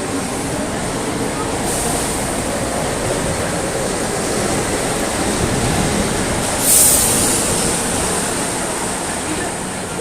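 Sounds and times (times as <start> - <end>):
metro train running: 0.0 - 10.0.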